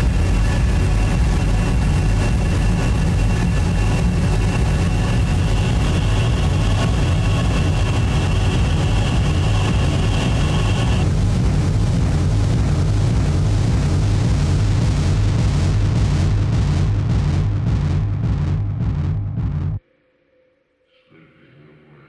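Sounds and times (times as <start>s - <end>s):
low rumbling drone: 0.0s - 19.8s.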